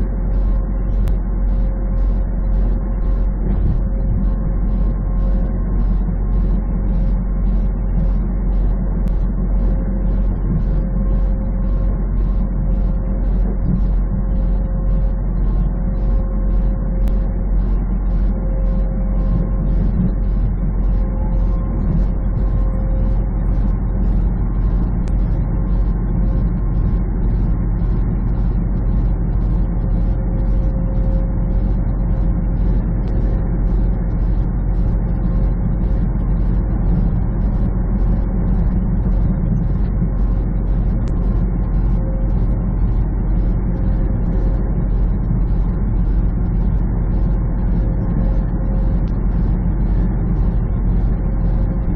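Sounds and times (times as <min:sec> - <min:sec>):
truck engine drone: 0:00.0 - 0:51.9.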